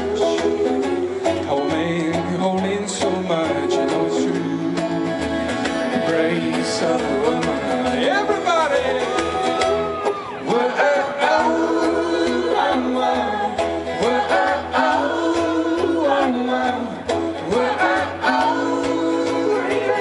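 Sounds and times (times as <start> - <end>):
acoustic folk band playing: 0.0 - 20.0
voices singing wordless melody: 0.0 - 20.0.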